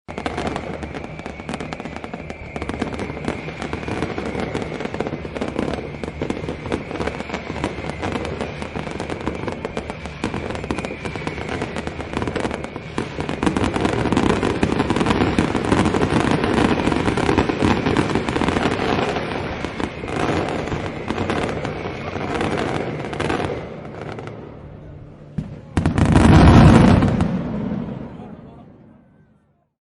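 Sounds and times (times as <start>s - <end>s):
fireworks crackling bangs: 0.1s - 29.0s.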